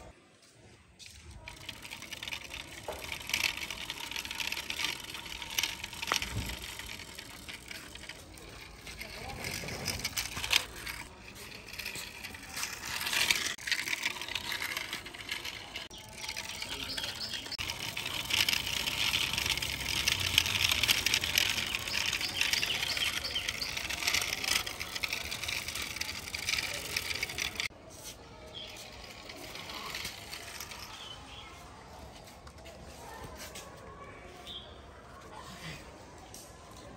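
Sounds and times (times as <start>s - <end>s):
toy truck rolling on concrete: 0.0s - 36.9s.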